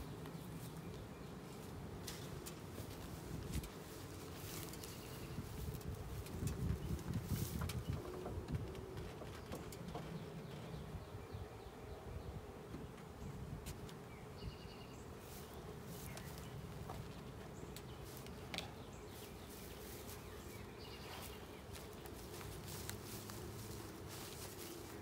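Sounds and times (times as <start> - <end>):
bee swarm buzzing: 0.0 - 9.3, 10.1 - 25.0.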